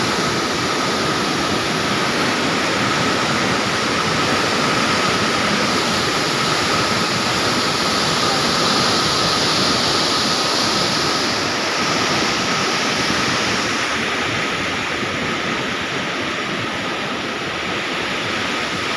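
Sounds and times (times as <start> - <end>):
fast rushing river water: 0.0 - 18.9.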